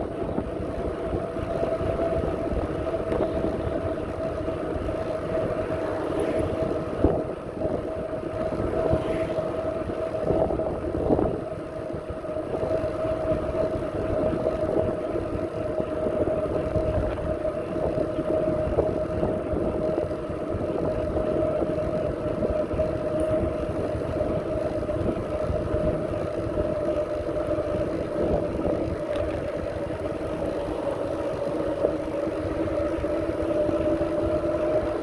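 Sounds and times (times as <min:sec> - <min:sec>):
bicycle bumps: 0:00.0 - 0:35.0
bicycle whine: 0:00.0 - 0:35.0
tyres rumbling on path: 0:00.0 - 0:35.0.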